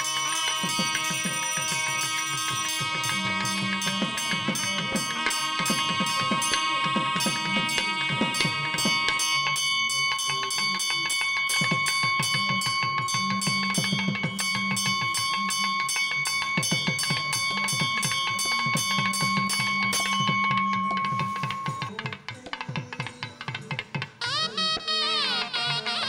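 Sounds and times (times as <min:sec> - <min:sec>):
bells ringing rapidly: 0:00.0 - 0:26.0
drum beats: 0:00.0 - 0:26.0.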